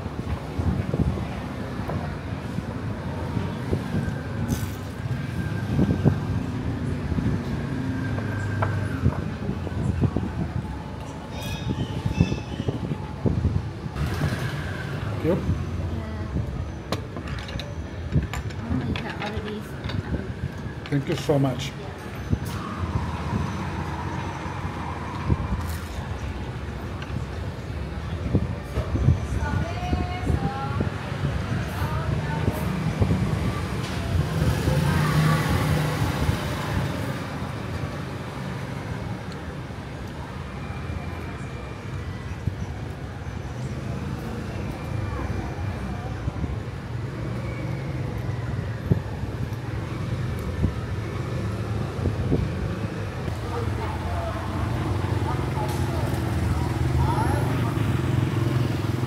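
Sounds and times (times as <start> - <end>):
passing traffic rumble: 0.0 - 59.0.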